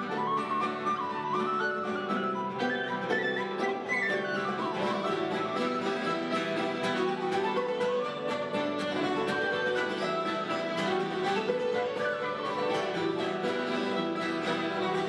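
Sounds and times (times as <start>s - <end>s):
fiddle melody: 0.0s - 15.0s
flute melody: 0.0s - 15.0s
guitar accompaniment: 0.0s - 15.0s.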